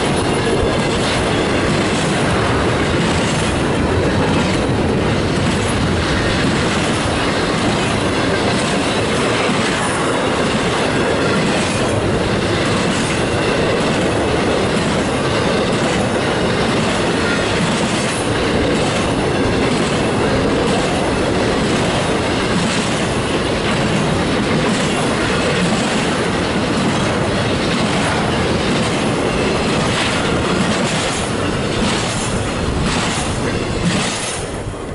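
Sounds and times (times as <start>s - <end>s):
freight train rolling past: 0.0s - 34.9s
wheels clicking over rails: 0.0s - 34.9s.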